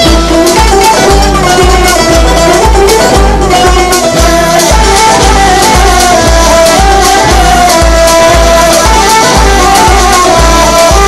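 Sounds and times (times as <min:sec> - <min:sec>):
instrumental song with bass beat: 0:00.0 - 0:11.0.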